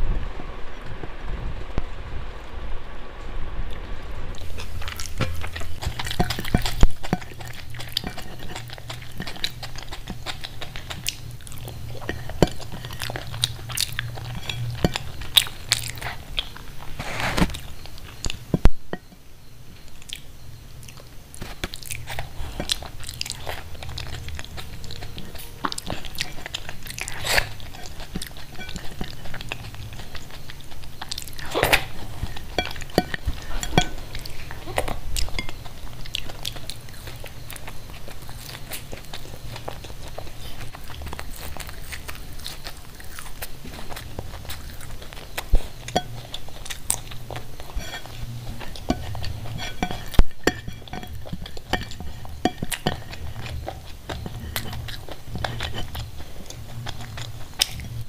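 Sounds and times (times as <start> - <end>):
electric fan humming: 0.0 - 58.0
food crunching: 3.7 - 58.0
wet chewing and lip smacks: 4.4 - 18.8, 19.8 - 58.0.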